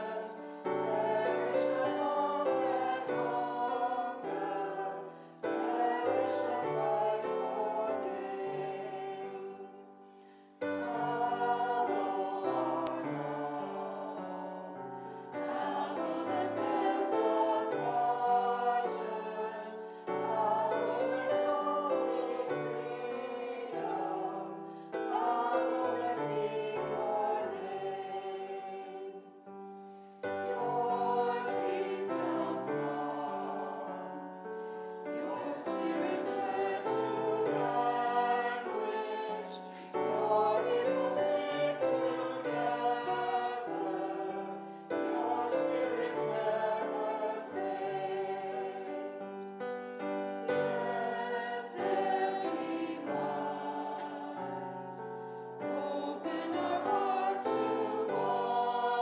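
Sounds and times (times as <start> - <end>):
choir and congregation singing hymn: 0.0 - 59.0.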